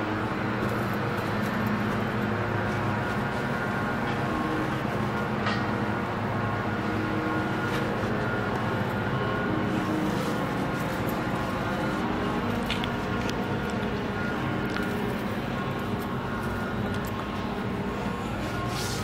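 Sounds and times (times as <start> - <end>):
mechanical drone: 0.0 - 19.0.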